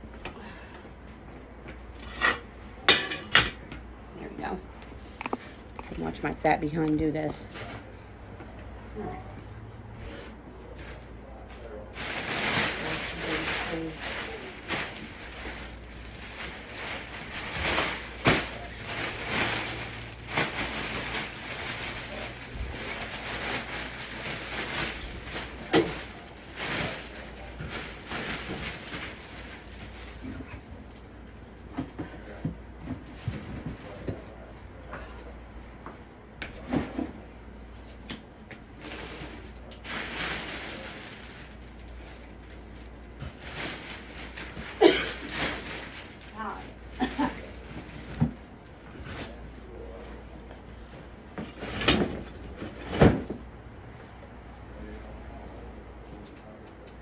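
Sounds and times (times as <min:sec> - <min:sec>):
rustling and shuffling of things: 0:00.0 - 0:57.0.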